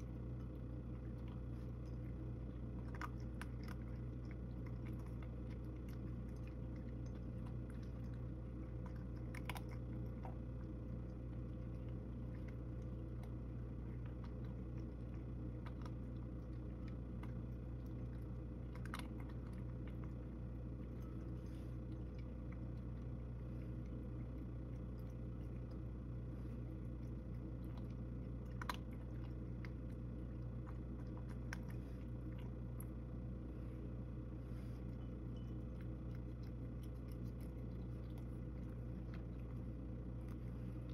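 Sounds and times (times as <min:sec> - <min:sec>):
cat chewing and crunching food: 0:00.0 - 0:40.9
low hum: 0:00.0 - 0:40.9.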